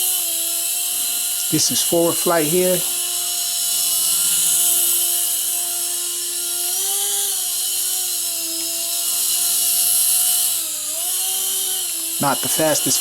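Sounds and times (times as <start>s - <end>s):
toy helicopter rotor whine: 0.0s - 13.0s.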